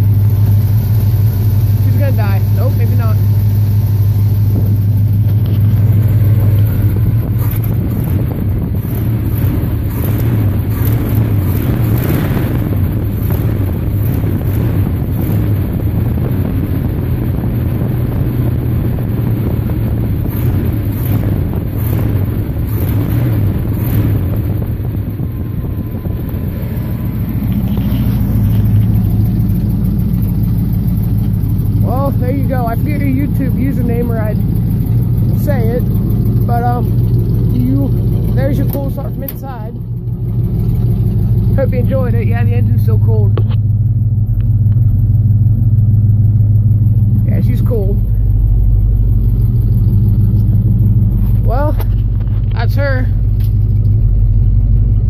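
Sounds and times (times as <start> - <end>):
pickup engine idling: 0.0 - 55.0.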